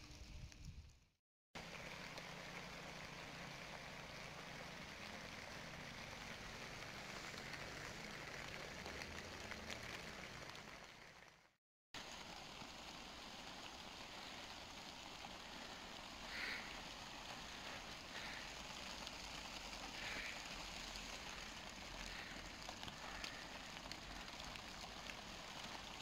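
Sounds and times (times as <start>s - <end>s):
rain on plastic sheeting: 1.6s - 26.0s
plastic sheeting rustles: 4.9s - 26.0s.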